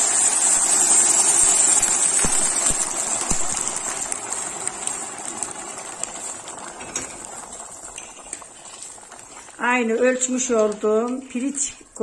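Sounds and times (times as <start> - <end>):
pot of rice bubbling and hissing: 0.0 - 12.0.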